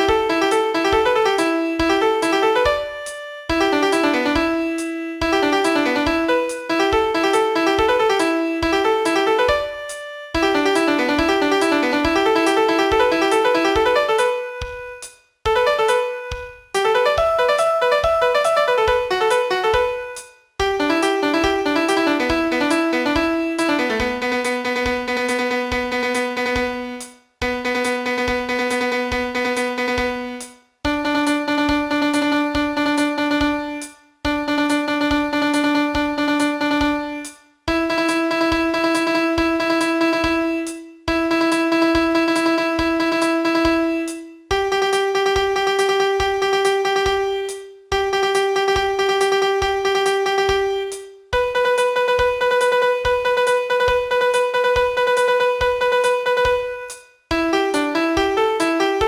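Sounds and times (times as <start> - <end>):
electronic piano melody: 0.0 - 59.0.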